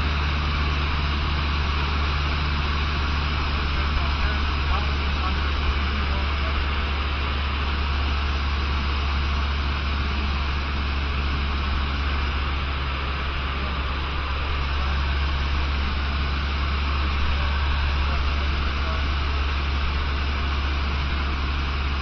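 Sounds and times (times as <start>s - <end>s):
light aircraft engine drone: 0.0s - 22.0s.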